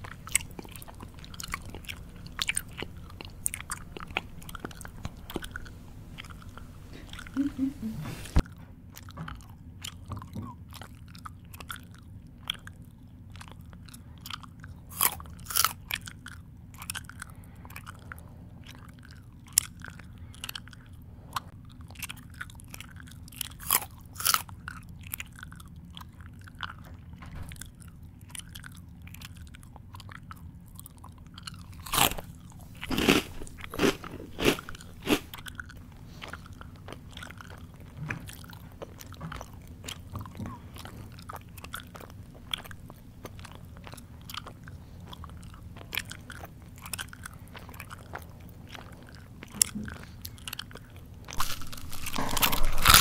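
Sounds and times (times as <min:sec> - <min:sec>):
person chewing food: 0:00.0 - 0:53.0
steady low hum: 0:00.0 - 0:53.0.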